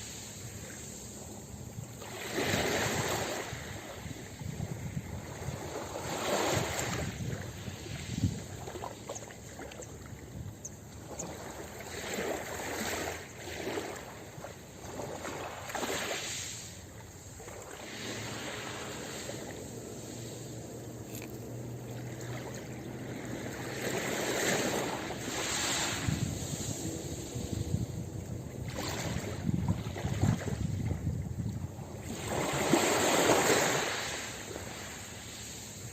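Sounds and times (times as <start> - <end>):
ocean surf breaking on beach: 0.0 - 8.8, 15.0 - 35.9.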